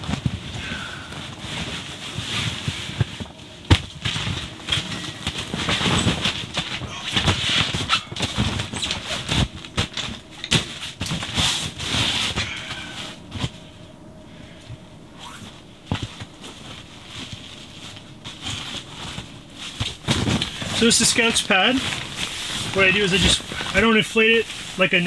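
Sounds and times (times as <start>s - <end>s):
camping gear rustling: 0.0s - 25.0s.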